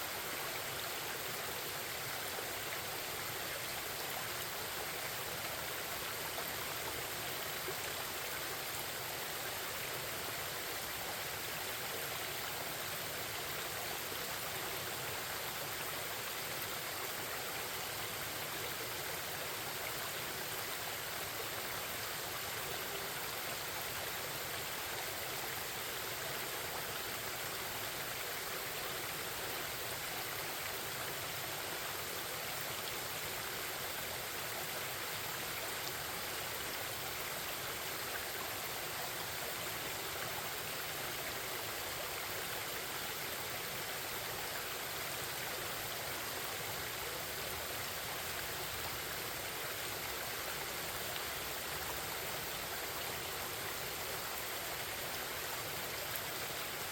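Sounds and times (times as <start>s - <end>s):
stream babbling and rushing: 0.0s - 56.9s.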